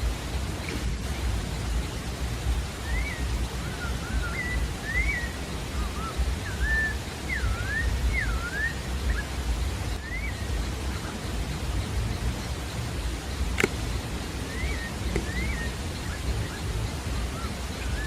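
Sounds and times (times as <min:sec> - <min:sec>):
steady low rumble: 0:00.0 - 0:18.0
bird whistling song: 0:00.6 - 0:18.0.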